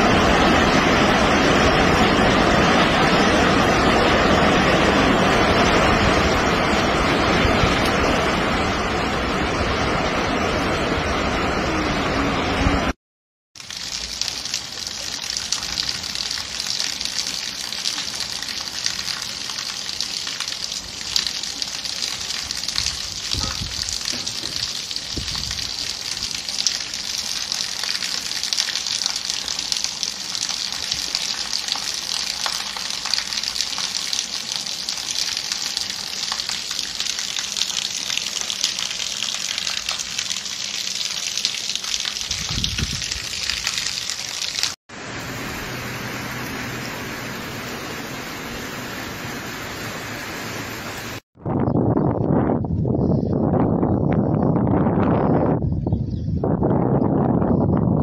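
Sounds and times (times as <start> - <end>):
rain on wet concrete: 0.0 - 10.0, 13.6 - 51.2
floodwater rushing over rocks: 0.0 - 12.9, 13.6 - 51.2.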